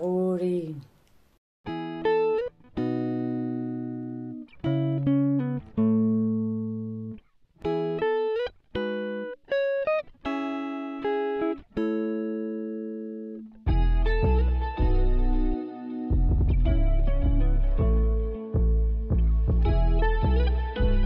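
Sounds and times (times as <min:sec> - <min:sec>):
guitar plucking slow chords: 0:01.7 - 0:21.0.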